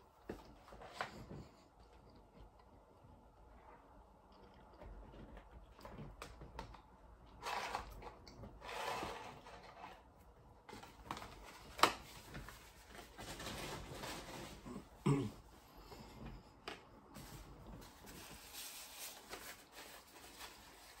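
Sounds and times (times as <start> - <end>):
eating and food rustling: 0.0 - 21.0.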